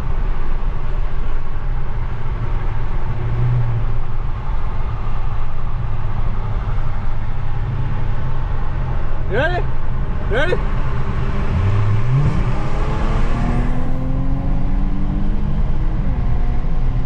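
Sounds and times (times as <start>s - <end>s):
car cabin engine and road drone: 0.0s - 17.0s.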